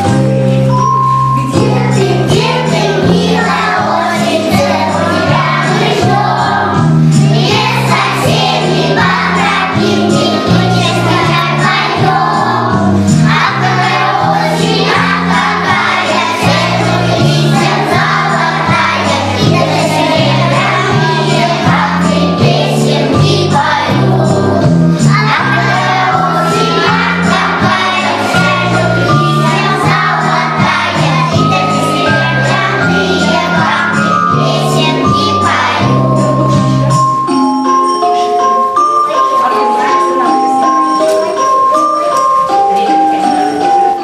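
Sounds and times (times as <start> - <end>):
children singing: 1.3 - 37.4.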